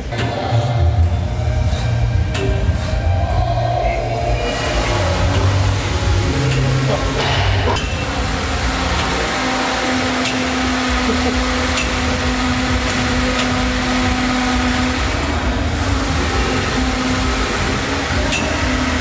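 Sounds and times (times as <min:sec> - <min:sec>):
low held tone: 0:00.0 - 0:19.0
mechanical hum: 0:00.0 - 0:19.0.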